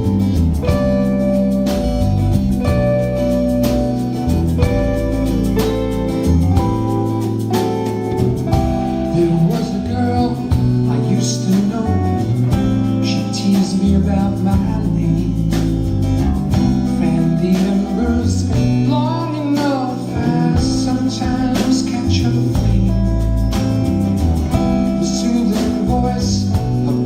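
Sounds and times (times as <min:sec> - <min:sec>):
band playing instrumental: 0:00.0 - 0:27.0.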